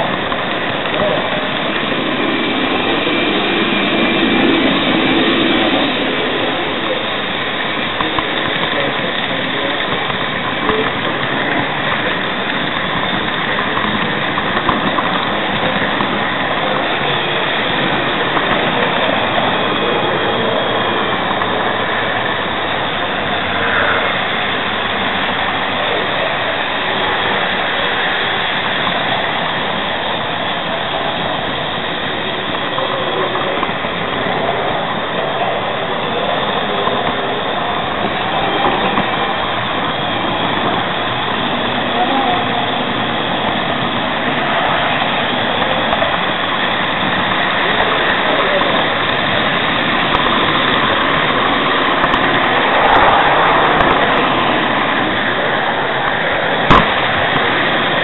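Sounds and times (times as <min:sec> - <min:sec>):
model train wheels rolling on rails: 0:00.0 - 0:58.0.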